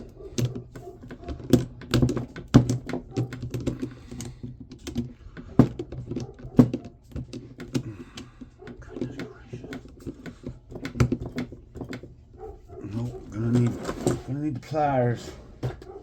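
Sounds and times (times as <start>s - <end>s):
plastic and metal parts clicking: 0.0s - 14.3s.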